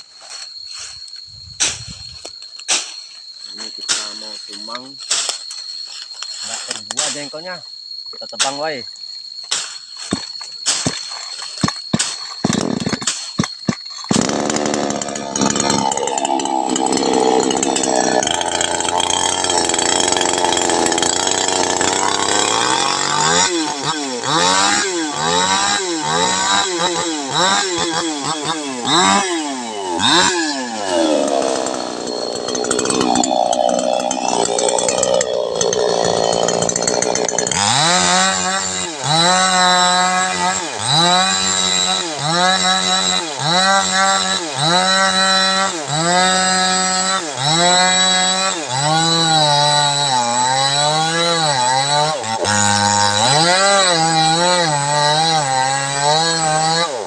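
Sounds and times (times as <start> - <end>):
chainsaw cutting wood: 10.2 - 57.0.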